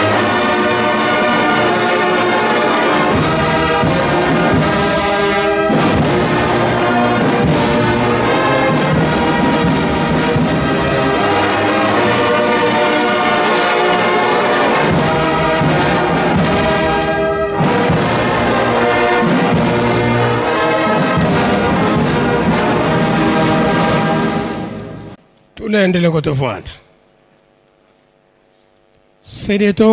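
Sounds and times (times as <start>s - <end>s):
brass band playing a hymn: 0.0s - 25.2s.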